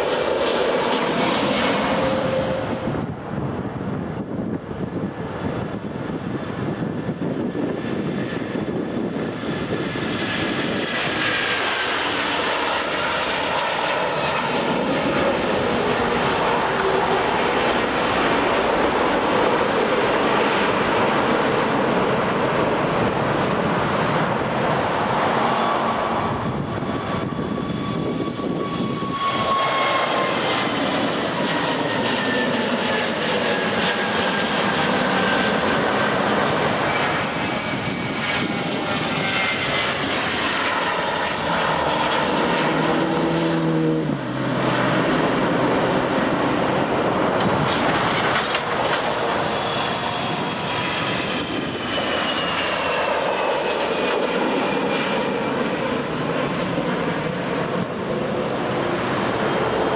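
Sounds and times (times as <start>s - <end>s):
jet airliners roaring: 0.0s - 59.9s.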